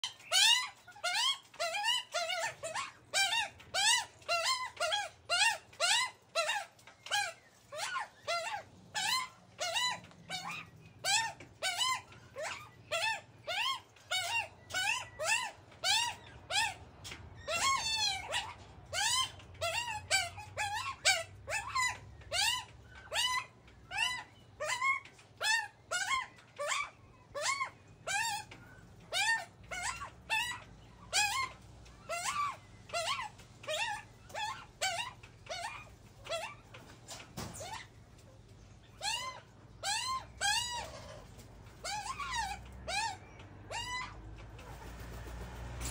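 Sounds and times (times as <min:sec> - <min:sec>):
young magpies squawking: 0:00.0 - 0:45.9.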